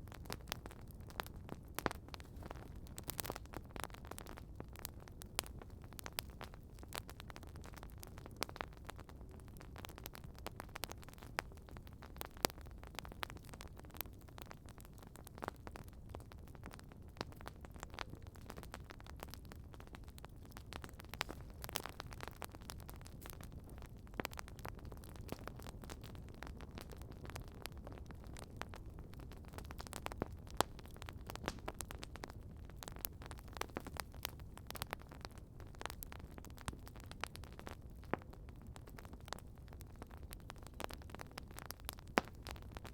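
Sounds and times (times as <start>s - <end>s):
wood campfire crackling: 0.0s - 42.9s.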